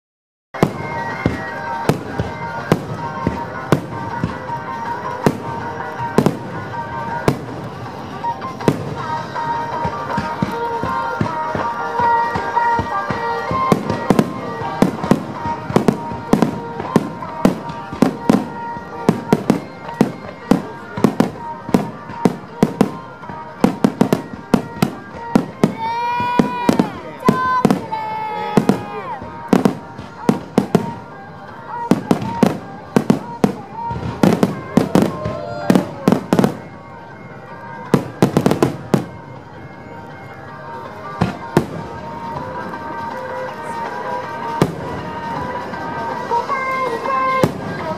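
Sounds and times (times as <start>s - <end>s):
fireworks bursting: 0.6s - 47.9s
music with held tones: 0.6s - 47.9s.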